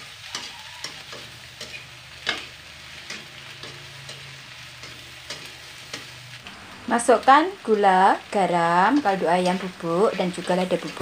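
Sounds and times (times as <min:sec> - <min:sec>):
spatula scraping a wok: 0:00.0 - 0:07.3, 0:08.8 - 0:11.0
food sizzling in oil: 0:00.0 - 0:11.0.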